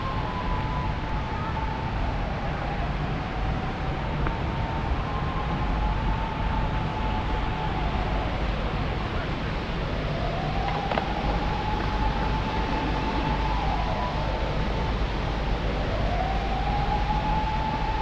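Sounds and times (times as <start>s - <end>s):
faint wavering siren: 0.0s - 9.2s, 9.8s - 18.0s
steady rushing noise: 0.0s - 18.0s.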